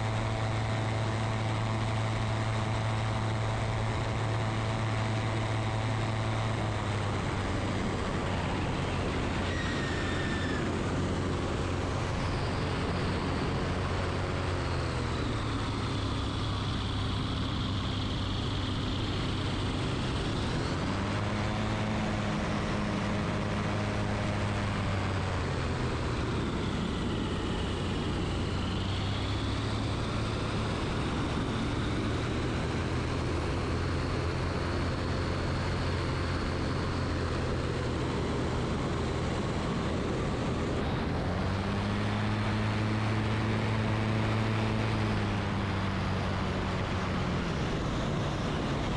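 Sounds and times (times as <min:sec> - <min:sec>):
ultralight engine and propeller droning: 0:00.0 - 0:48.9.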